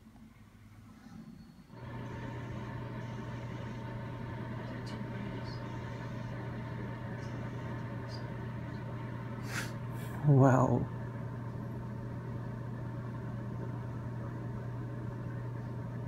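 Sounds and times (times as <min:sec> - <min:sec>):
low mechanical hum: 0:00.0 - 0:16.0
high whine: 0:01.7 - 0:16.0.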